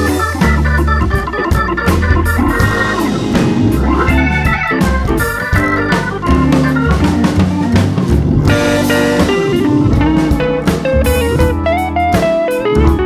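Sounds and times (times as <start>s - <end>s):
guitar melody: 0.0s - 13.0s
steady drum beat: 0.0s - 13.0s.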